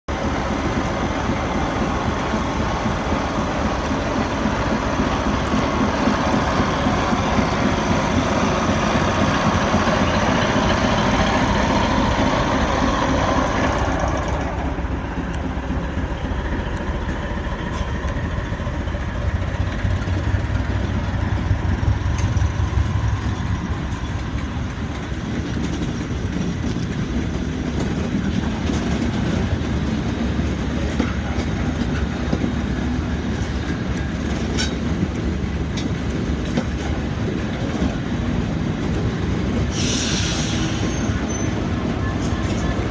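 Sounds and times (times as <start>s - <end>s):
diesel train rumbling: 0.0s - 42.9s.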